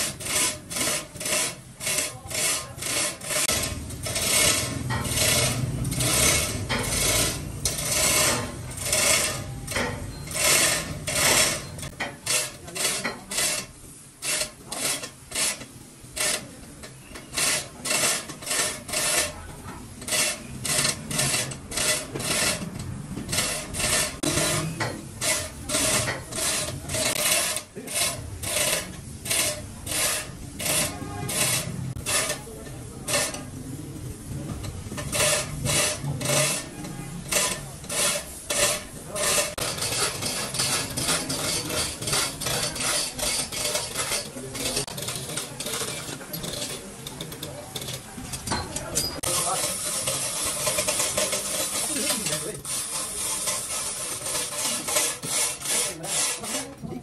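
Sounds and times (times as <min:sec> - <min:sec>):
hand file scraping: 0:00.0 - 0:57.0.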